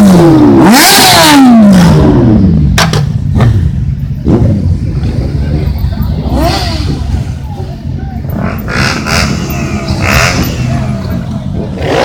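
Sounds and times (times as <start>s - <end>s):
low engine rumble: 1.8s - 12.0s.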